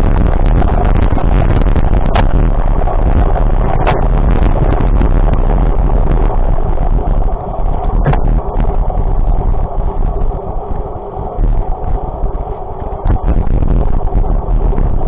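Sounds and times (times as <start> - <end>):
vehicle rumbling: 0.0 - 15.0.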